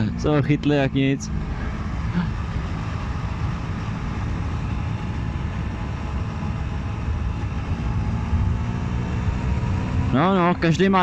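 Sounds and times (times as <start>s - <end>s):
motorcycle engine rumble: 0.0s - 11.0s
rushing wind: 0.0s - 11.0s.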